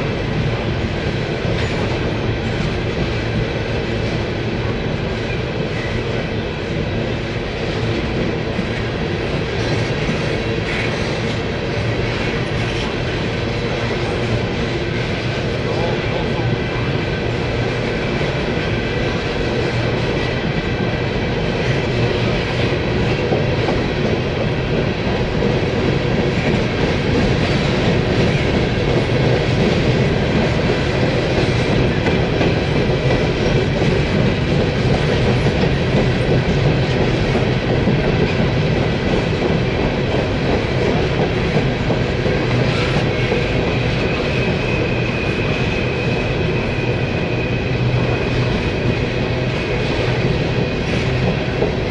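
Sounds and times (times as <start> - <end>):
steel wheels rumbling on rails: 0.0 - 51.9.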